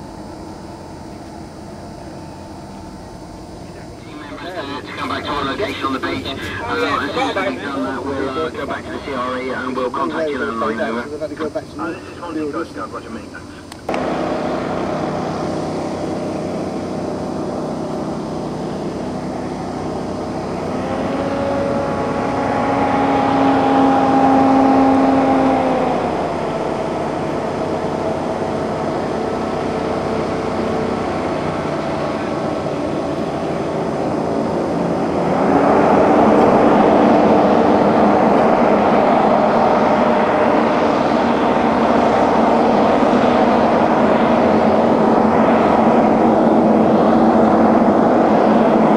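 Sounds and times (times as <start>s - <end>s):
hovercraft engine and propeller: 0.0s - 48.9s.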